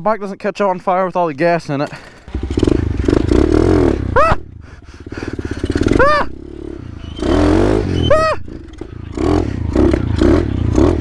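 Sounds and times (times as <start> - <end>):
motorcycle engine revving: 1.9 - 11.0.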